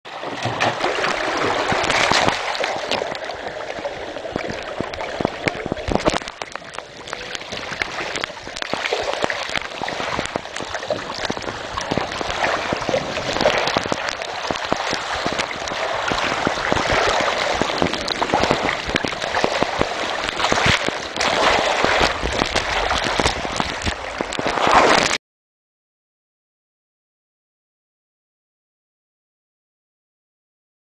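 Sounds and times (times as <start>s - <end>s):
water rushing down a slide: 0.1s - 25.2s.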